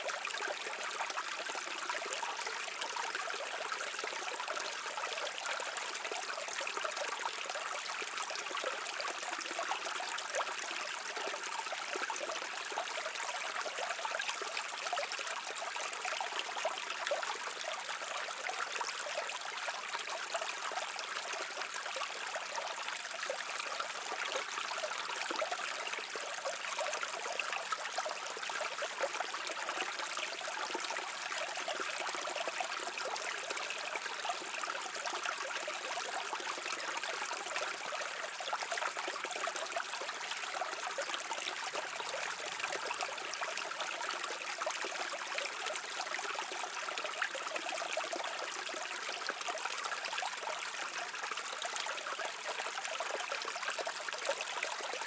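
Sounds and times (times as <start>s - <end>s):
brook water flowing: 0.0s - 55.0s.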